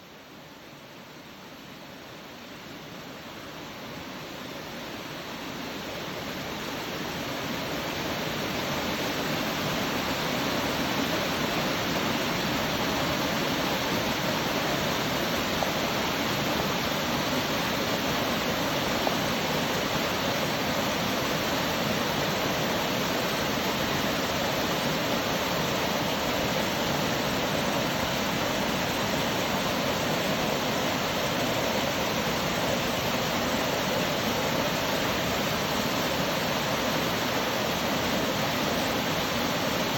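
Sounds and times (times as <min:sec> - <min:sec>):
waterfall roaring: 0:03.3 - 0:39.9.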